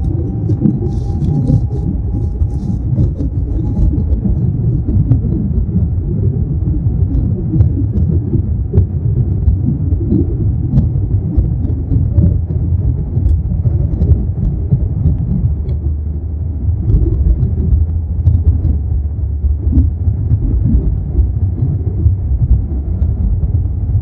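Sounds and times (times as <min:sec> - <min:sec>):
airliner engines rumbling: 0:00.0 - 0:24.0.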